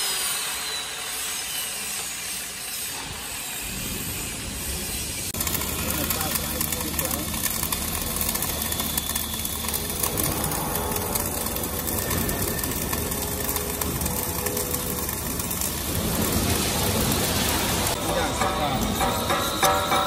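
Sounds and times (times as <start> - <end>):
welding arc crackling: 0.0 - 20.0.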